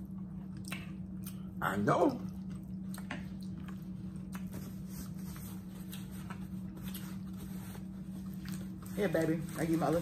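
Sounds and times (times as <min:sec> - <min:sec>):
people chewing food: 0:00.0 - 0:10.0
steady low hum: 0:00.0 - 0:10.0.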